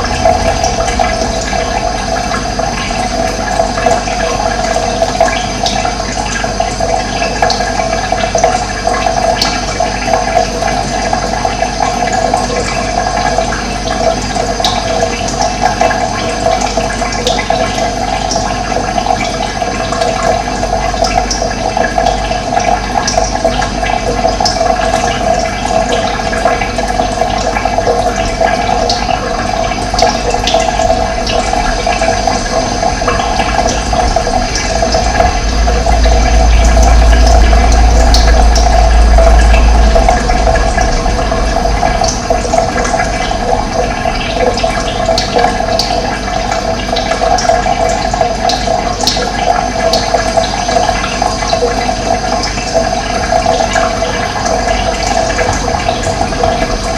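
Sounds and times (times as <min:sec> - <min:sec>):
running water pouring: 0:00.0 - 0:56.9.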